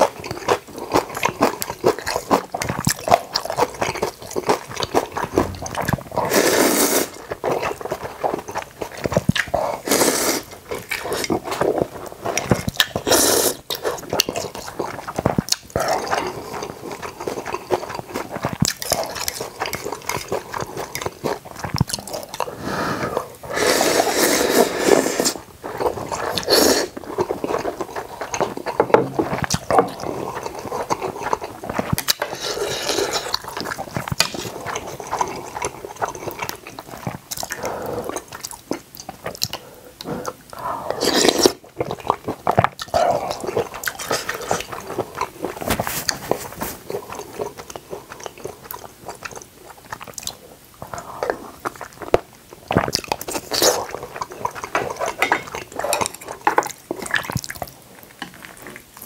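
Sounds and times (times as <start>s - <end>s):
close chewing and biting: 0.0s - 59.0s
wet mouth sounds: 0.0s - 59.0s.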